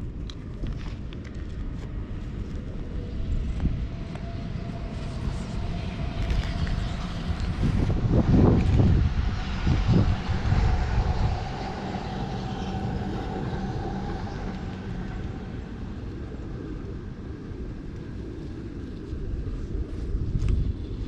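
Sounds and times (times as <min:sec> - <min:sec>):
faint steady tones: 0:00.0 - 0:21.0
low rubbing noise: 0:00.0 - 0:21.0
passing vehicle rumble: 0:03.2 - 0:21.0.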